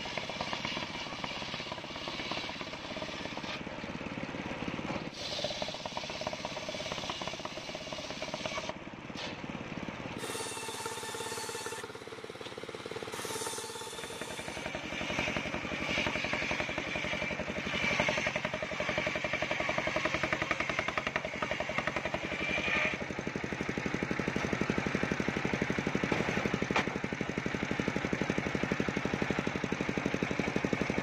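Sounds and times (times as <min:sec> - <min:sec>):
circular saw cutting log: 0:00.0 - 0:09.5, 0:10.1 - 0:31.0
saw blade whining: 0:00.0 - 0:09.5, 0:10.1 - 0:27.6
engine running: 0:00.0 - 0:31.0.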